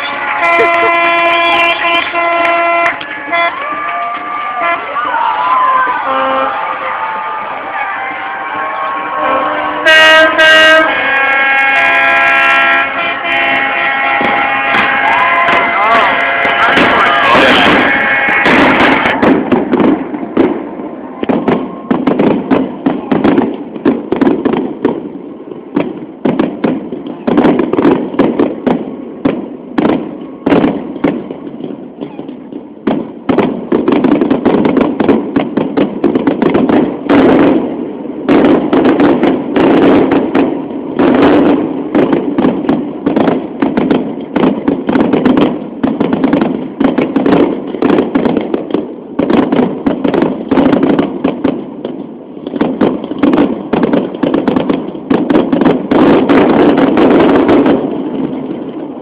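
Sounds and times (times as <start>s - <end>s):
fireworks shells bursting: 9.8s - 58.8s.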